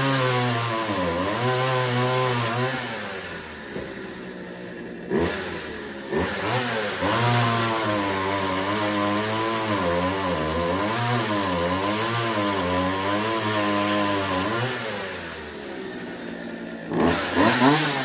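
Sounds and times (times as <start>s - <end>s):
chainsaw cutting log: 0.0s - 18.0s.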